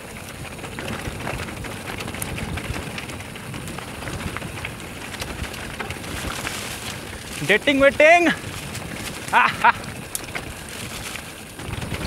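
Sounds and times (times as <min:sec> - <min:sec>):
bike rattling: 0:00.0 - 0:12.0
tyres crunching over gravel: 0:00.0 - 0:12.0.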